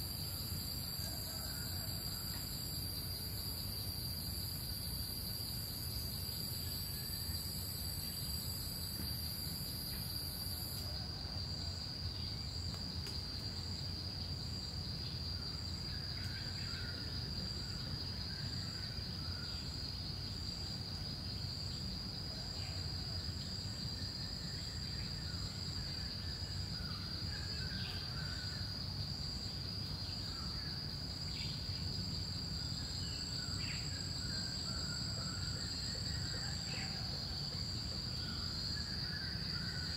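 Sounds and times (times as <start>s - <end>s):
pulsing high insect call: 0.0s - 39.9s.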